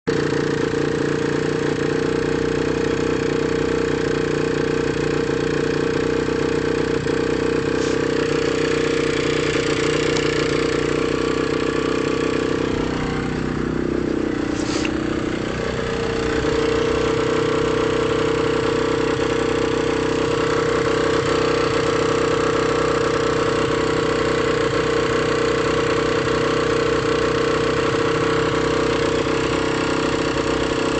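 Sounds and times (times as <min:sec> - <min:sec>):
two-stroke engine running: 0:00.0 - 0:30.9.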